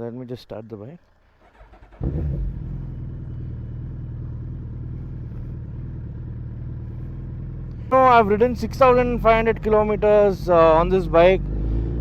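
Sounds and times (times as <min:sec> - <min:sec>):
motorcycle engine starting and idling: 0:01.1 - 0:12.0.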